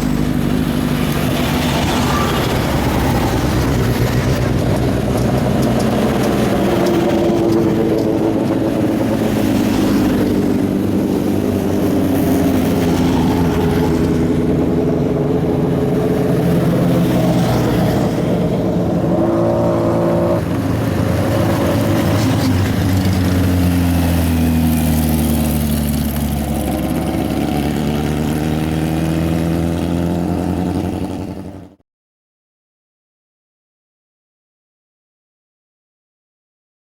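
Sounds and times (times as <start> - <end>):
racing car engine at high revs: 0.0 - 31.8.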